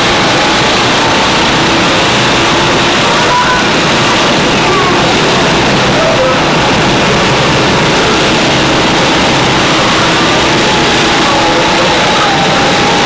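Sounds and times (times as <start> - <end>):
go-kart engines droning: 0.0 - 13.0.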